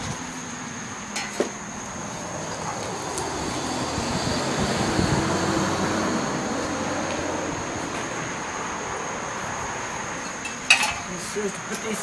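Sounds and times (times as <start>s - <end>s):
passing vehicle rumble: 0.0s - 11.5s.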